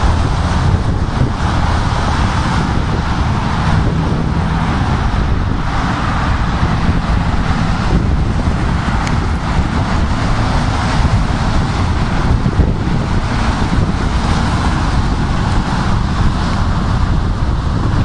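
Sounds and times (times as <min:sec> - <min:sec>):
road traffic hum: 0:00.0 - 0:18.0
wind buffeting microphone: 0:00.0 - 0:18.0.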